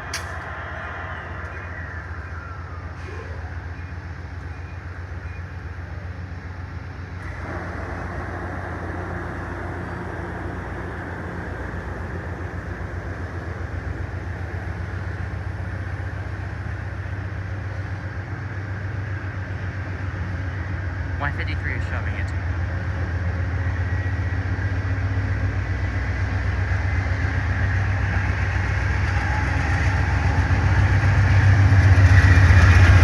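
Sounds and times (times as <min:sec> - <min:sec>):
diesel train engine throb: 0:00.0 - 0:33.0
train rumbling past: 0:00.0 - 0:33.0.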